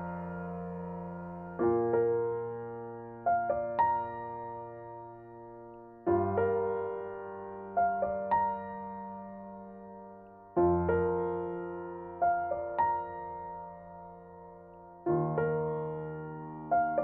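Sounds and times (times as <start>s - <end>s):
slow solo piano music: 0.0s - 17.0s.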